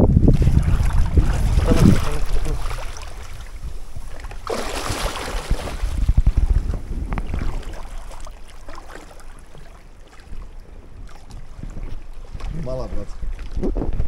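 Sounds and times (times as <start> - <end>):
water splashing and sloshing: 0.0 - 14.0
wind rumble on microphone: 0.0 - 14.0.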